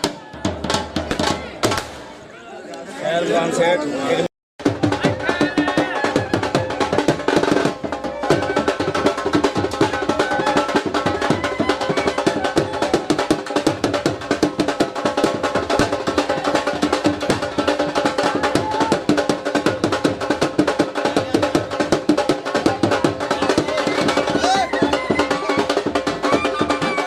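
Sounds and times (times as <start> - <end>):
drums fast beat: 0.0 - 2.0, 4.6 - 27.0.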